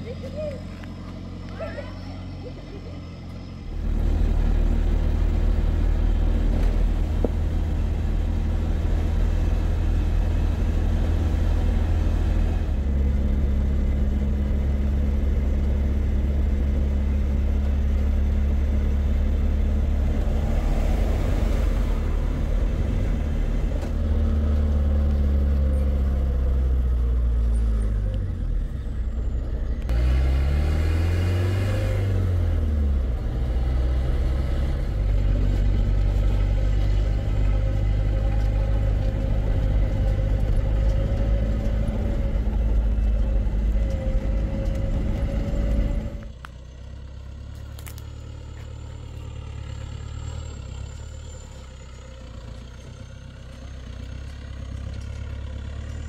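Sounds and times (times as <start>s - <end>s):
farm machine engine droning: 0.0s - 56.0s.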